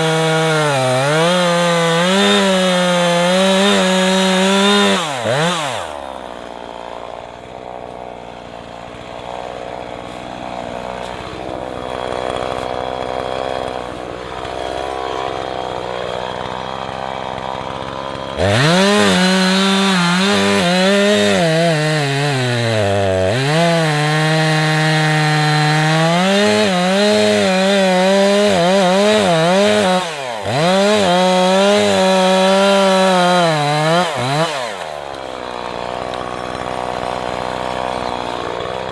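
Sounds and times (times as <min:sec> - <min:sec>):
chainsaw cutting wood: 0:00.0 - 0:38.9
chainsaw idling: 0:00.0 - 0:38.9.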